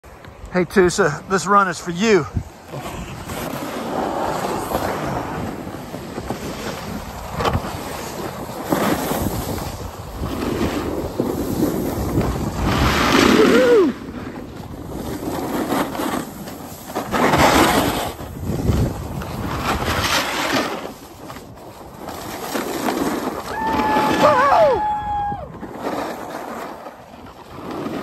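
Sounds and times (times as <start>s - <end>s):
skis scraping over snow: 0.2s - 28.0s
wind on microphone: 2.2s - 26.4s.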